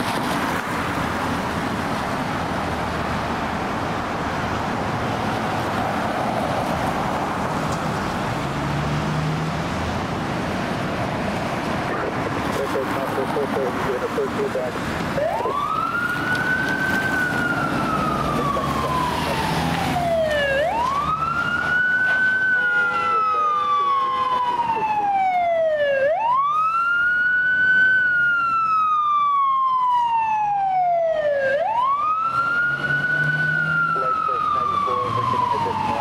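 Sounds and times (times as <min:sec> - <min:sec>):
fire engine wail siren: 0:00.0 - 0:36.0.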